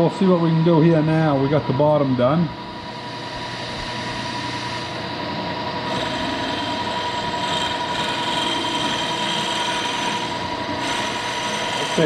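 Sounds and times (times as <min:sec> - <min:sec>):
milling machine motor hum: 0:00.0 - 0:12.0
thin steady whine: 0:00.0 - 0:12.0.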